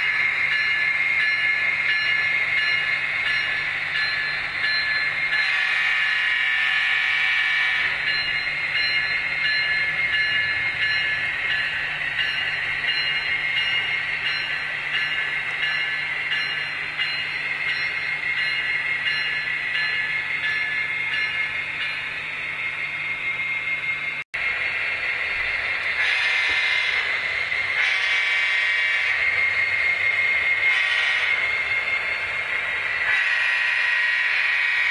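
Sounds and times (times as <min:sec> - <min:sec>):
model train humming: 0:00.0 - 0:34.9.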